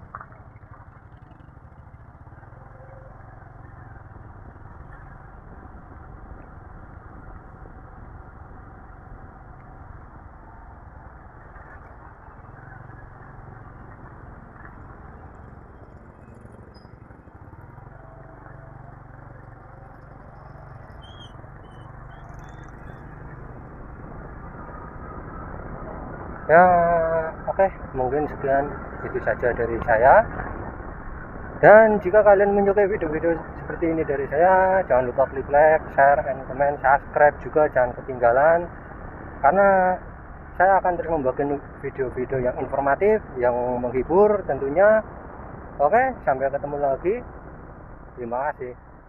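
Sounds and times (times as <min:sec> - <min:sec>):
motorcycle riding on road: 0:00.0 - 0:49.0.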